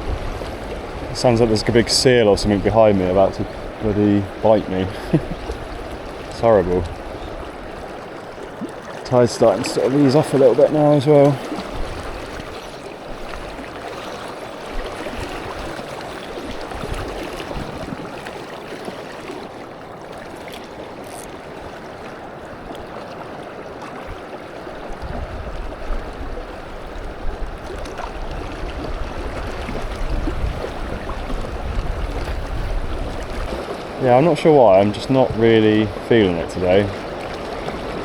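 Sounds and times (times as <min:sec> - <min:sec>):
water running and lapping: 0:00.0 - 0:38.0.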